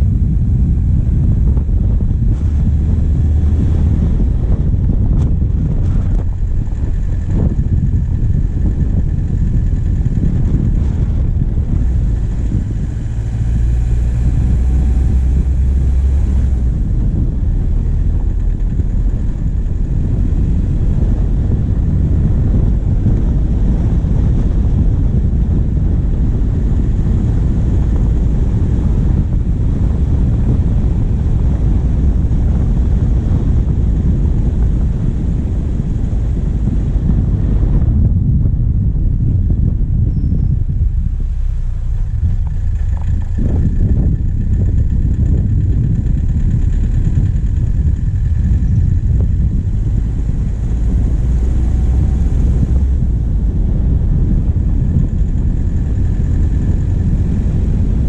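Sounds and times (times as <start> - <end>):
diesel engine running: 0.0 - 58.0
wind buffeting microphone: 0.0 - 58.0.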